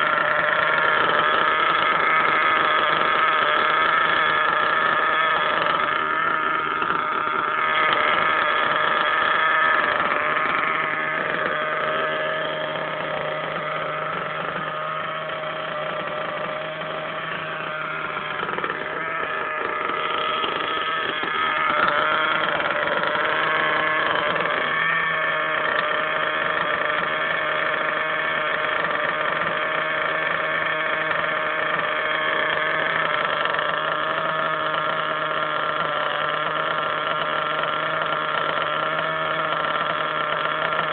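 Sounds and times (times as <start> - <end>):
nitro engine running: 0.0 - 40.9.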